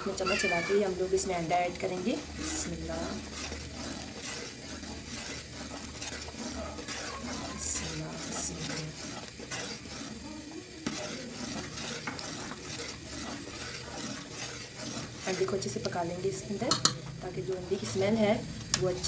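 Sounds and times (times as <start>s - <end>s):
soup boiling in a pot: 0.0s - 19.0s
spoon scraping and clinking pot: 0.0s - 19.0s.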